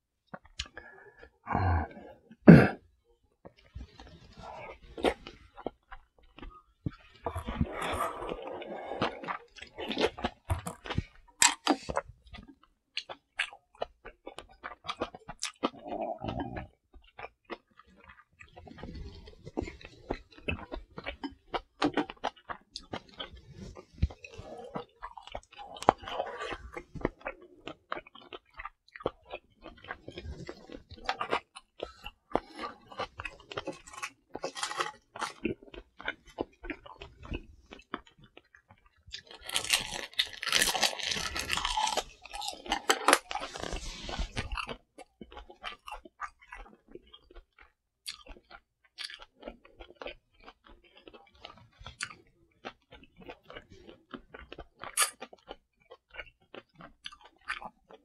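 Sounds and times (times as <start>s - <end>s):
person chewing crunchy food: 0.3s - 2.8s, 3.4s - 58.0s.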